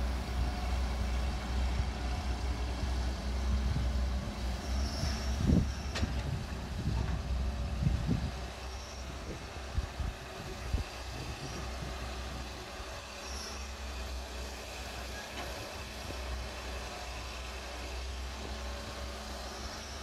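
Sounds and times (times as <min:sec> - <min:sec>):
excavator diesel engines droning: 0:00.0 - 0:20.0.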